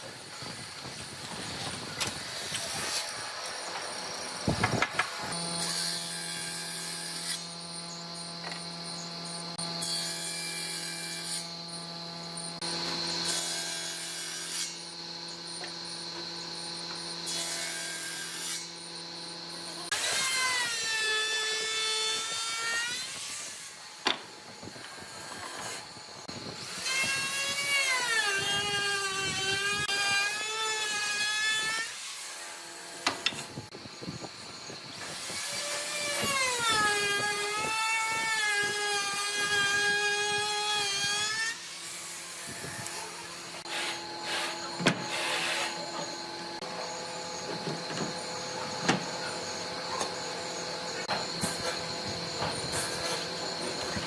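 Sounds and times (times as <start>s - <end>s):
power tool motor whining: 0.4s - 54.0s.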